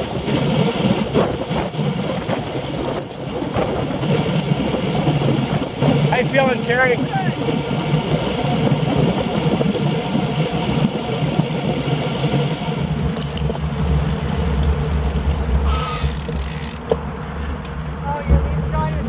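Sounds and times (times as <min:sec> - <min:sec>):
bicycle tyre road noise: 0:00.0 - 0:19.0
wind buffeting microphone: 0:00.0 - 0:19.0.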